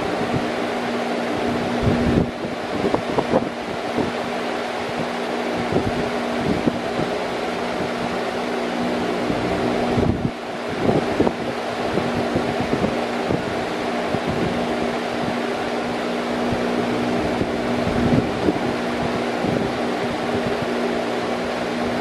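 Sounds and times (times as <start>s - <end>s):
fan rushing air and humming: 0.0s - 22.0s.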